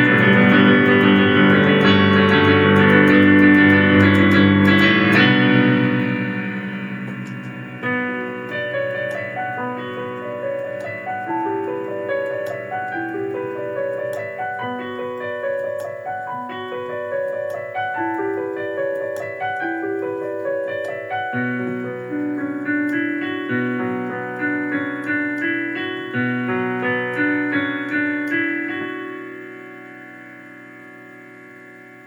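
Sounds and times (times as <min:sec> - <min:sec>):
electric keyboard melody: 0:00.0 - 0:32.0.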